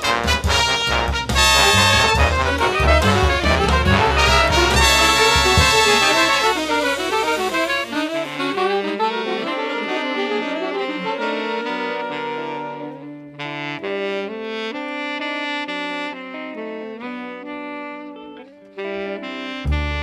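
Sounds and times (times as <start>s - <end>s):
brass accompaniment: 0.0s - 20.0s
saxophone melody: 0.0s - 20.0s.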